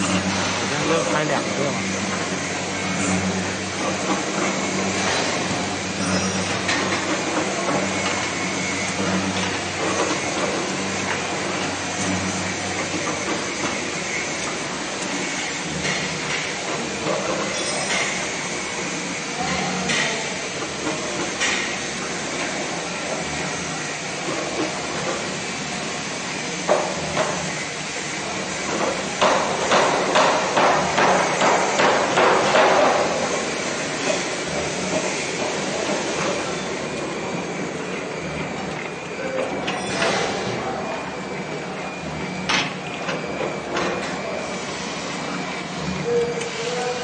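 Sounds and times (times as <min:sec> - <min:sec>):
welding machine running: 0:00.0 - 0:47.0
workshop machinery: 0:00.0 - 0:47.0.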